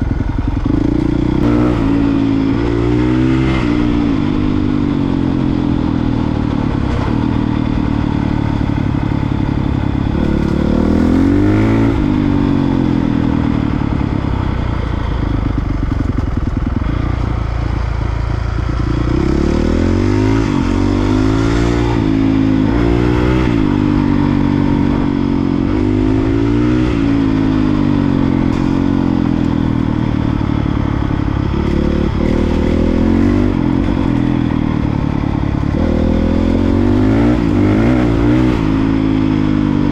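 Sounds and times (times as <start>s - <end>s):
dirt bike engine revving: 0.0s - 14.2s, 18.8s - 39.9s.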